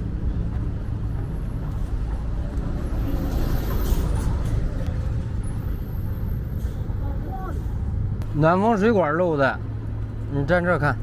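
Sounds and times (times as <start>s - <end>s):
roadside noise: 0.0s - 11.0s
vehicle engine rumbling: 0.0s - 11.0s.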